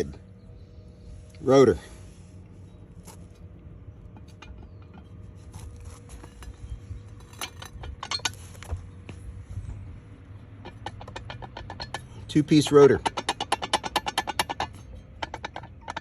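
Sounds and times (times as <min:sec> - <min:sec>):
brake rotor metallic clinking: 0:02.6 - 0:16.0.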